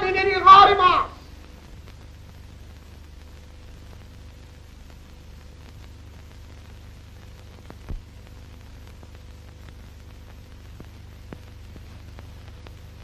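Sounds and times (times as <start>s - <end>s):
film soundtrack hiss: 0.0s - 13.0s.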